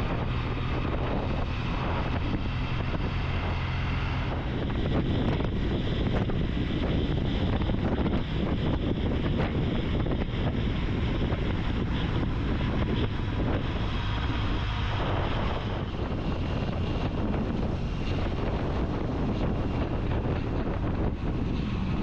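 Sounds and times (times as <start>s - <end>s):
motorcycle engine rumble: 0.0s - 22.0s
wind noise on microphone: 0.0s - 22.0s.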